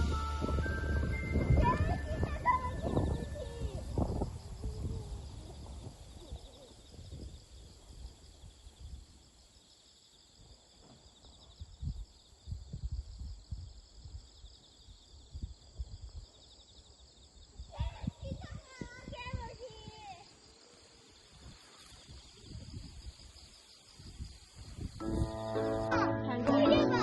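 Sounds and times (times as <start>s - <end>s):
insects chirping in trills: 0.0s - 26.9s.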